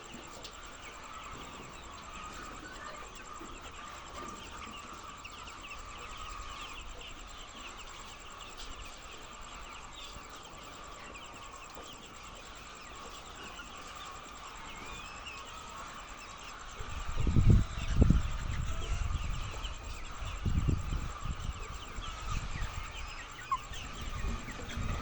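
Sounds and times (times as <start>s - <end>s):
flock of chickens calling: 0.0s - 25.0s.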